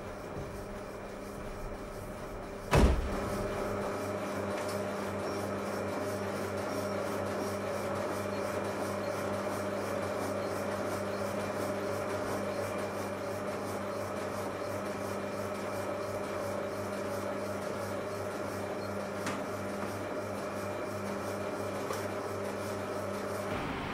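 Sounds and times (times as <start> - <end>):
workshop machinery humming: 0.0 - 23.9.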